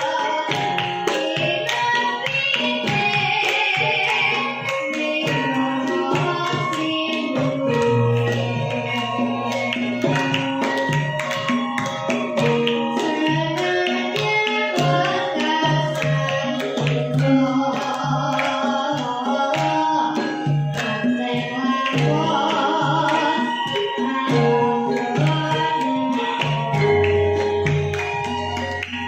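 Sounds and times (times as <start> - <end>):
girl singing: 0.0 - 11.0, 12.4 - 27.2
ringing metallophone tones: 0.0 - 29.0.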